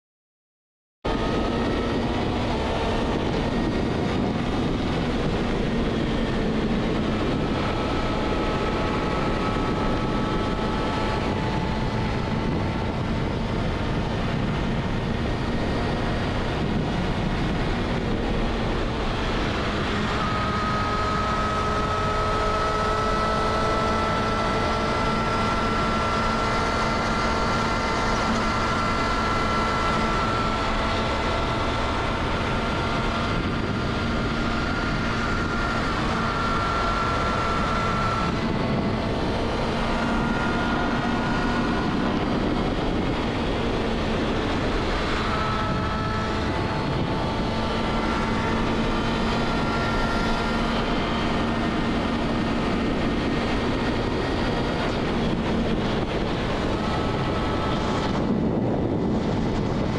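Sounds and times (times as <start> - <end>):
wind and road noise: 1.0 - 59.9
motorcycle engine cruising: 1.1 - 59.9.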